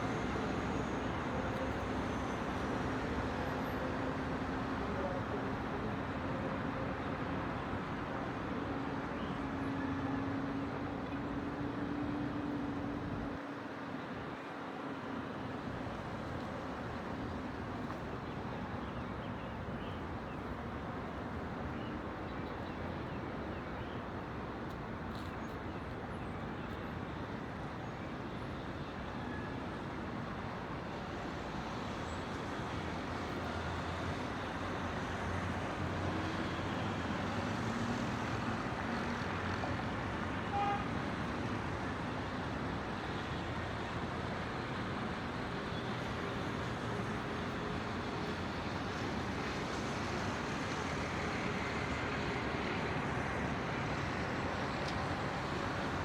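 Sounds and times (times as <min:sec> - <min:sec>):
distant city traffic hum: 0:00.0 - 0:56.0.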